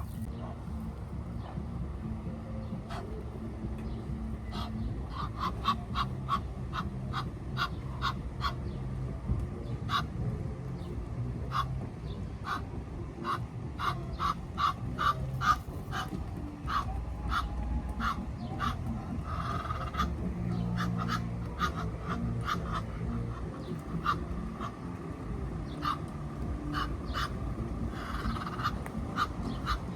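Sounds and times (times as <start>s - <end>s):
ducks quacking: 0.0s - 29.9s.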